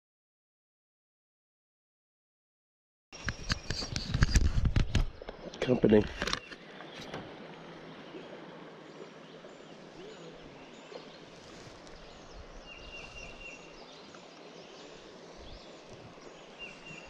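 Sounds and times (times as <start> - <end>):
small birds chirping: 3.2 - 17.0.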